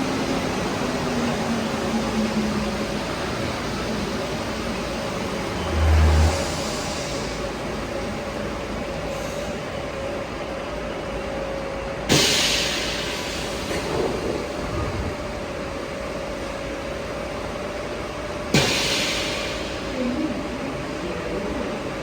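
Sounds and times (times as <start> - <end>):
train running with steady hiss: 0.0 - 22.0.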